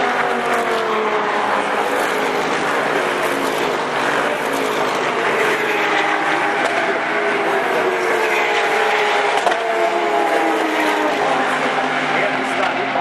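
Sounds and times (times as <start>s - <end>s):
race cars passing at speed: 0.0s - 13.0s.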